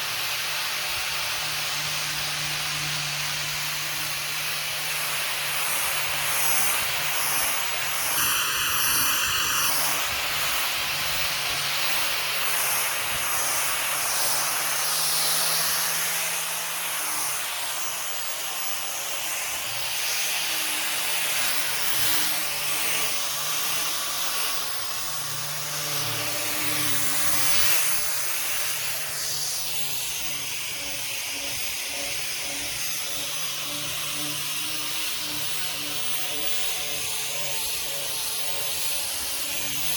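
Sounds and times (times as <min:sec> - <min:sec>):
orbital sander on wood: 0:00.0 - 0:39.9.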